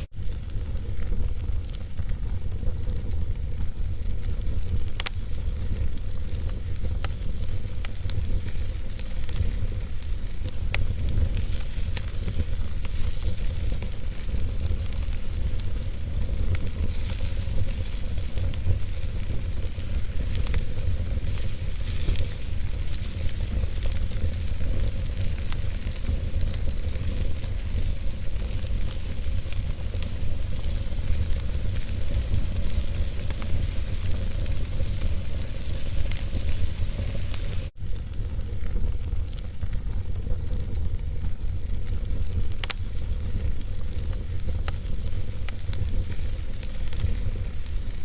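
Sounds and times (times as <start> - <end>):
low fire rumble: 0.0 - 48.0
wood fire crackling: 0.0 - 48.0.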